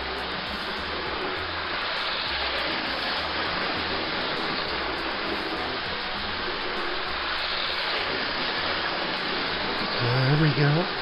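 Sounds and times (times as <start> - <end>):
model train whirring hiss: 0.0 - 11.0.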